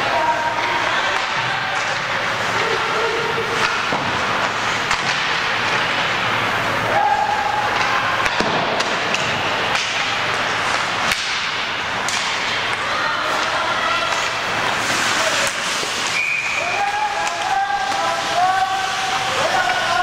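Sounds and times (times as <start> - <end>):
arena noise: 0.0 - 20.0
hockey sticks and puck hitting boards: 0.5 - 20.0.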